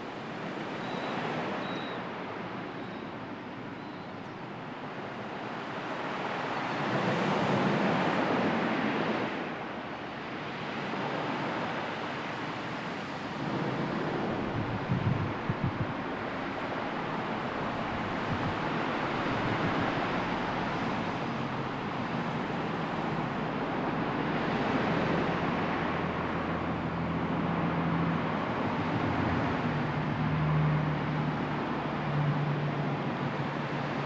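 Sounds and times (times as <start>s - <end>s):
wind: 0.0s - 34.0s
sea surf rushing: 4.6s - 34.0s.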